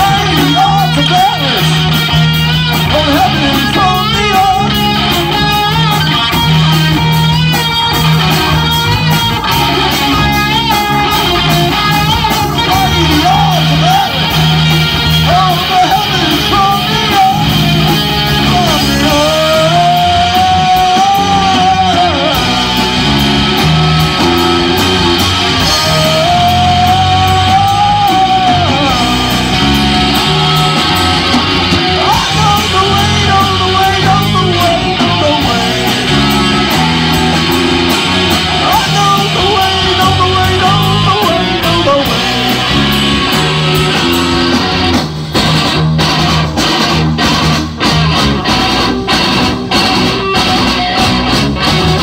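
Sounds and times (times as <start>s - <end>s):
rock band playing loud: 0.0s - 52.0s
wavering lead guitar melody: 0.0s - 52.0s.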